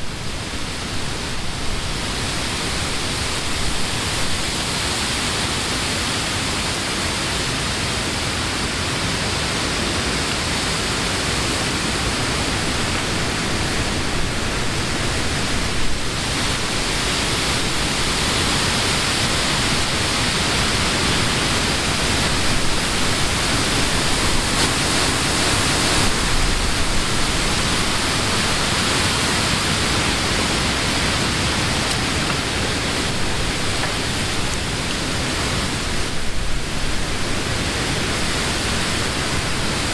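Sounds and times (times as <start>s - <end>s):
wind rustling tree leaves: 0.0s - 39.9s.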